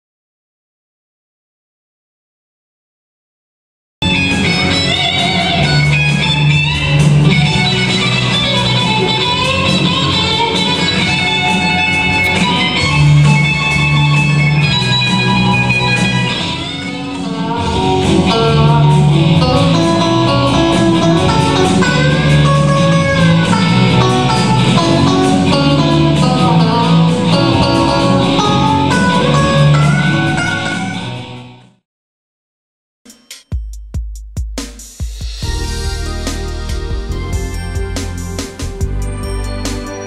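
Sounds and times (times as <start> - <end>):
electric guitars playing band music: 4.0 - 31.8, 35.4 - 40.0.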